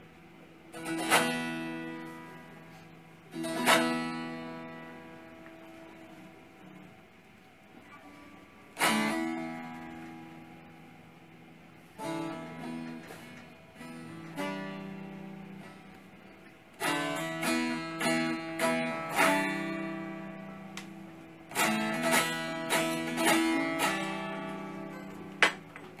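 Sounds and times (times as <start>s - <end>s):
long-necked lutes strummed and plucked: 0.0s - 26.0s.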